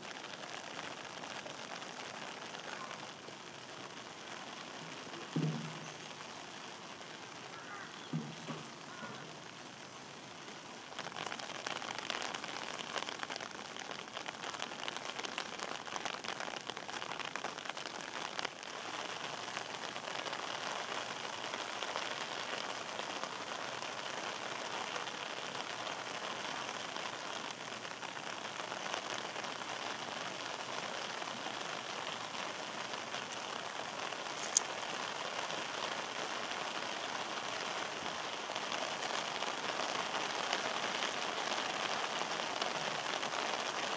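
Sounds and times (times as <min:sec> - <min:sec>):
rain pattering: 0:00.0 - 0:43.9.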